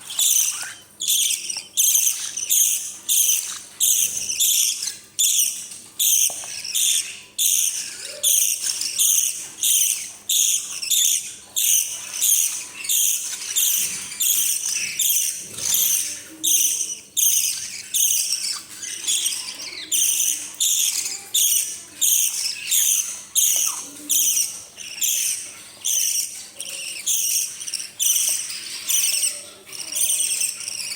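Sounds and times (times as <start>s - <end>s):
parrot chicks begging calls: 0.0s - 30.9s.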